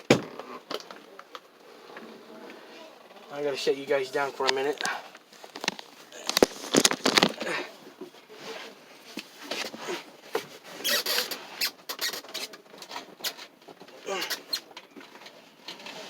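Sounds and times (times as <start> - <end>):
rustling: 0.3 - 16.0.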